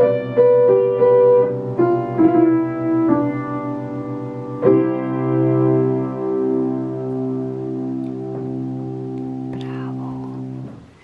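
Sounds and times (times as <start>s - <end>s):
slow classical piano: 0.0s - 11.0s.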